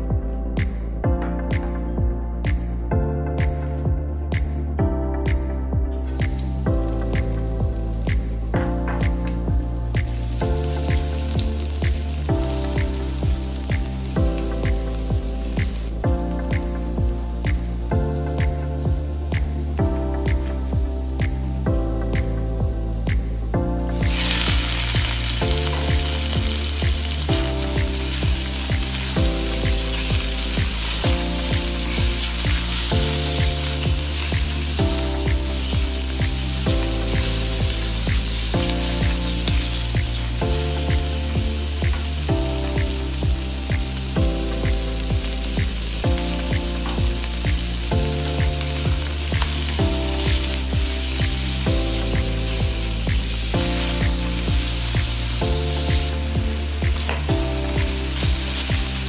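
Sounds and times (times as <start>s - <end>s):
background music with steady beat: 0.0s - 59.0s
pork sizzling in a wok: 6.0s - 21.4s, 22.0s - 59.0s.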